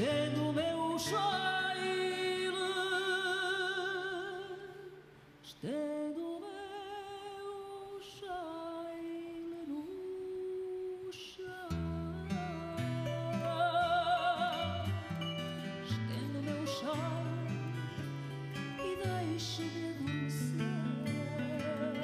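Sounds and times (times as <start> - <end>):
woman singing with vibrato: 0.0 - 22.0.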